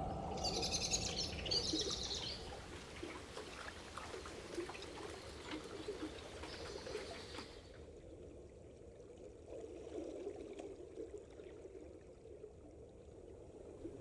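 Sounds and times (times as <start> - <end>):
faint flowing river water: 0.0 - 14.0.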